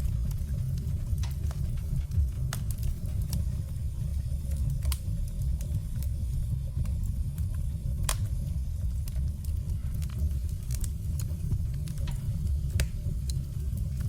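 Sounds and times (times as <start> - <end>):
logs crackling and popping: 0.0 - 14.0
wood fire rumbling: 0.0 - 14.0.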